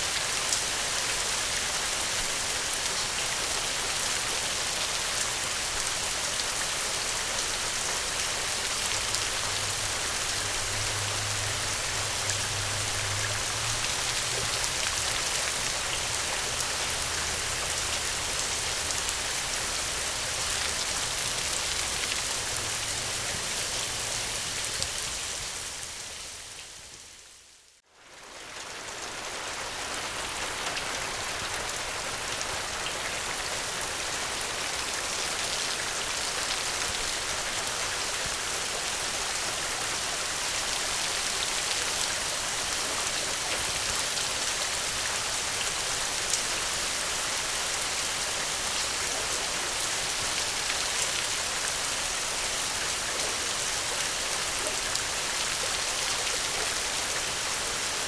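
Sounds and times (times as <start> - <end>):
gentle rain falling: 0.0 - 58.0.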